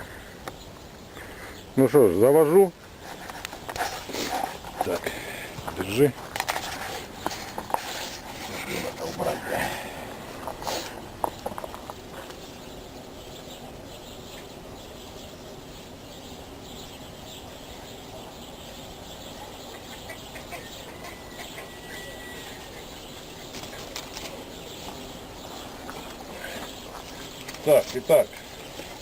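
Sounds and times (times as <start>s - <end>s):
quiet background hiss: 0.0s - 29.0s.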